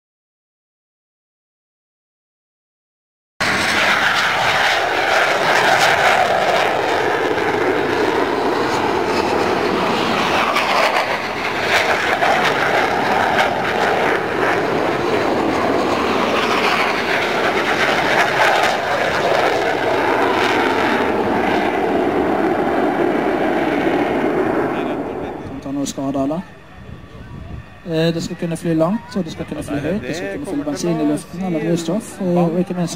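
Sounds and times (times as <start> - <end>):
jet roar: 3.4 - 32.9.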